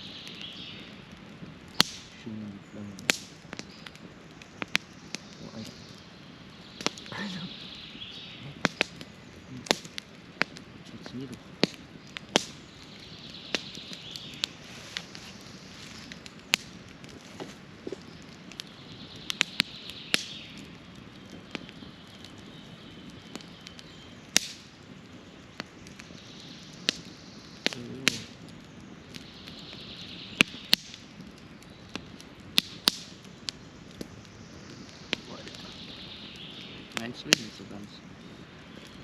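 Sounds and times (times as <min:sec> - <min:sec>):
faint hiss: 0:00.0 - 0:20.6, 0:25.7 - 0:39.0
burning wood popping: 0:00.0 - 0:39.0
campfire crackling: 0:00.0 - 0:39.0.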